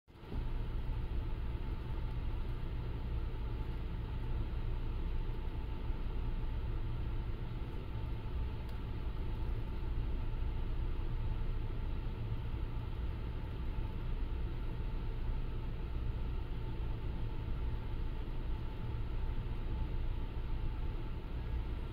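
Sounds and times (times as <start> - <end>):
faint even hum: 0.1 - 21.9
ship engine low rumble: 0.1 - 21.9.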